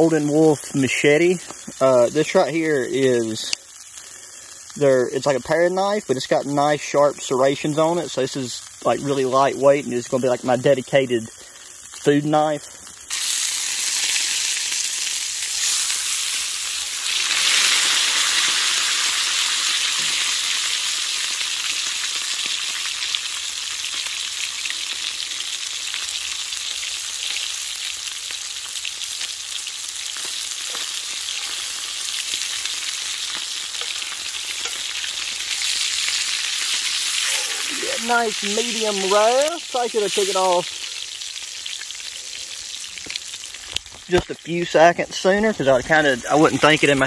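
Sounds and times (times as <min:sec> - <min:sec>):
steak sizzling in skillet: 0:00.0 - 0:47.0.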